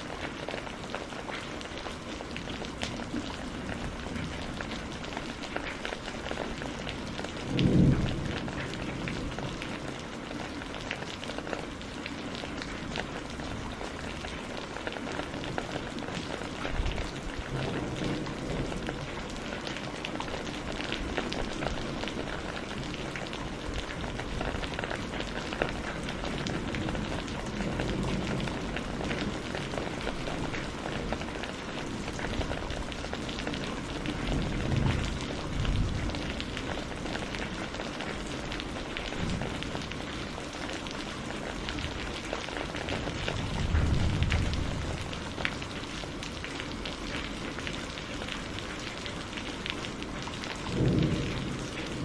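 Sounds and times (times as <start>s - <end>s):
steady rain: 0.0s - 52.0s
thunder rumbling: 2.6s - 10.8s, 15.6s - 47.9s, 49.9s - 52.0s.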